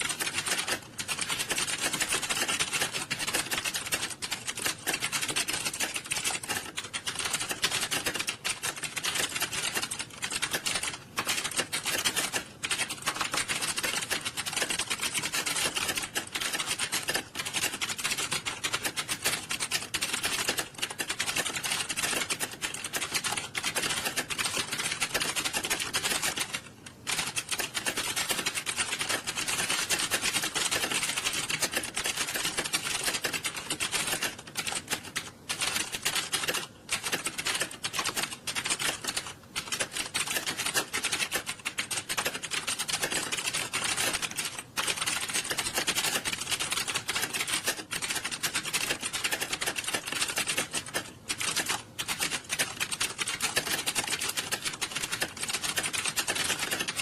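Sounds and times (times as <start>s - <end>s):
keyboards typing clatter: 0.0s - 57.0s.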